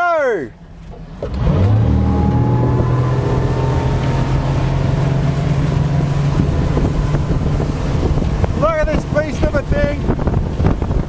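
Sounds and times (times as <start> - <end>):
rush of wind and water: 0.0 - 11.0
outboard engine at full throttle: 0.6 - 11.0.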